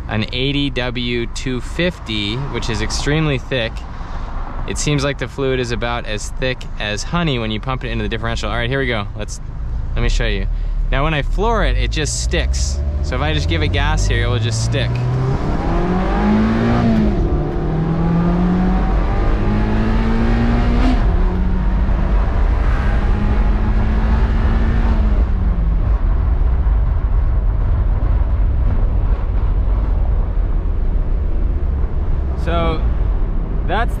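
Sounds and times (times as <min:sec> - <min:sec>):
car engine accelerating: 0:00.0 - 0:34.0
wind and road noise: 0:00.0 - 0:34.0.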